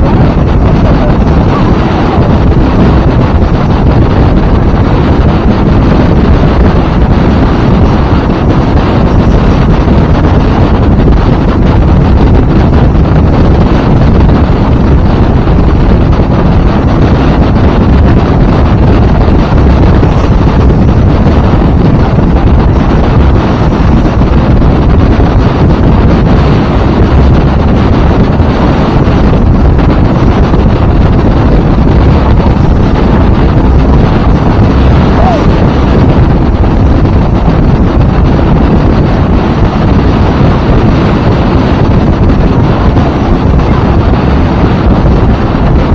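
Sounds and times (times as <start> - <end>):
wind rumbling over microphone: 0.0 - 45.9.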